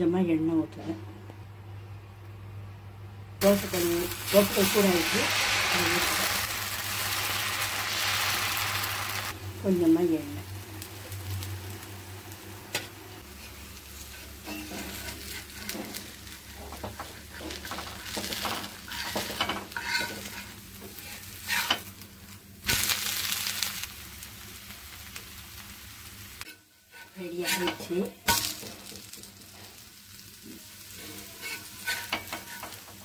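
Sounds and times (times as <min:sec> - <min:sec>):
batter sizzling on a griddle: 0:03.4 - 0:33.0.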